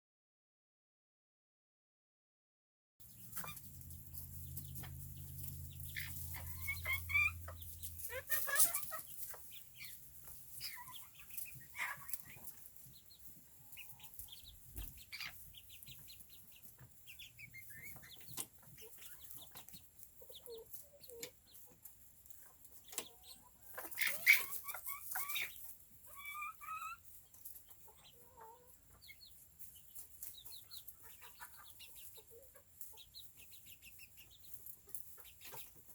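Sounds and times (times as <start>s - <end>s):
chickens clucking and calling: 3.0s - 35.9s.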